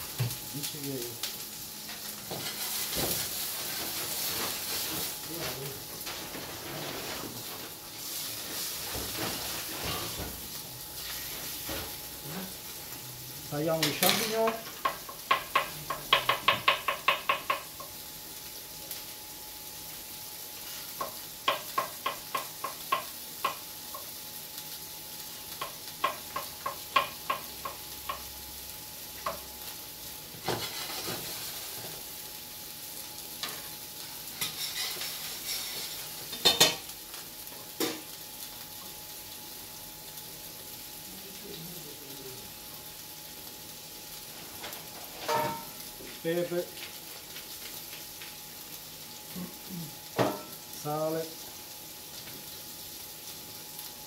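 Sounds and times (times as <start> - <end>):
onions sizzling in oil: 0.0 - 54.0.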